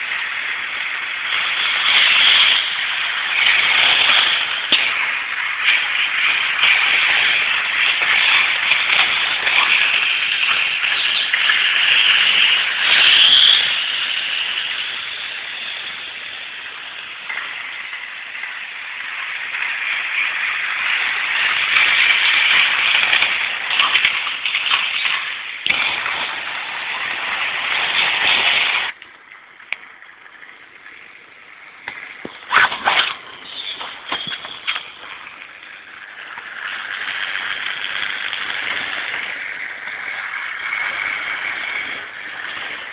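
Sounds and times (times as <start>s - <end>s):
model trains whirring on rails: 0.0s - 42.9s.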